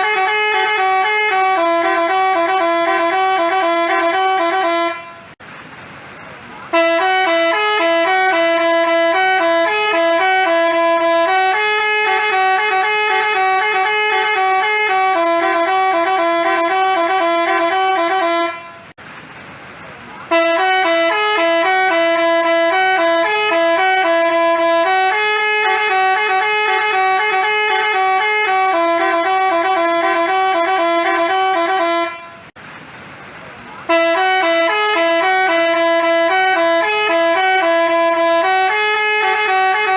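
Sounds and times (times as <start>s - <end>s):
multi-tone bus horn melody: 0.0s - 5.4s, 6.7s - 19.0s, 20.2s - 32.6s, 33.8s - 39.9s.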